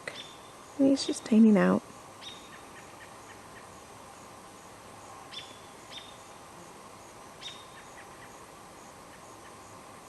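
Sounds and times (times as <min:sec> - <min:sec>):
songbird chirps: 0:00.0 - 0:09.9
faint outdoor hiss: 0:00.0 - 0:10.0.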